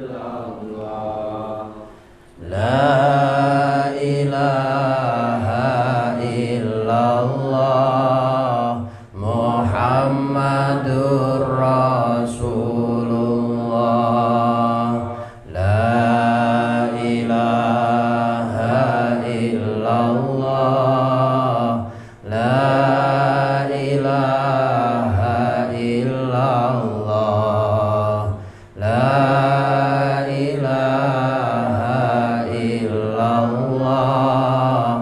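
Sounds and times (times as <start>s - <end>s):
man chanting into a microphone: 0.0s - 35.0s.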